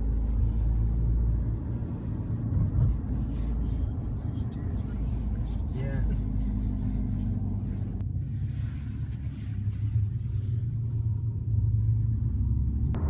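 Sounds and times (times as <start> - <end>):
car engine rumble in cabin: 0.0 - 13.0
road noise: 0.0 - 13.0.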